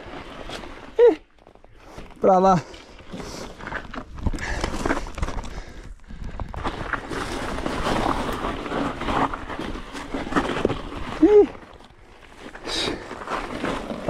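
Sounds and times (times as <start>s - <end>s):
mountain bike on rocky trail: 0.0s - 14.0s.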